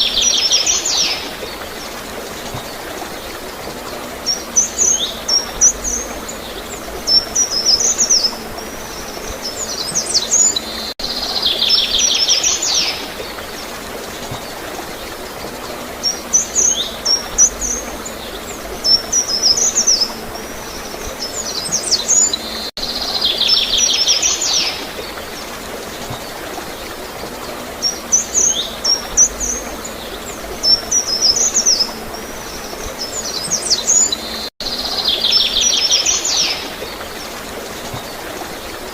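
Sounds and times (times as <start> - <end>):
flowing water: 0.0 - 38.9
songbirds chirping: 0.0 - 38.9.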